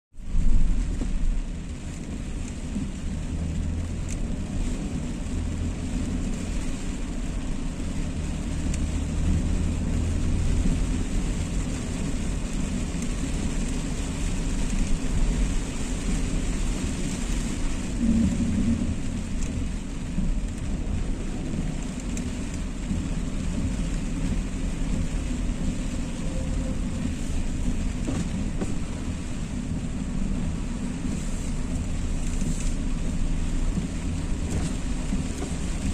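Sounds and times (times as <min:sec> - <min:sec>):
car engine and tyres rumbling: 0:00.1 - 0:35.9
rain and road spray hissing: 0:00.2 - 0:35.9.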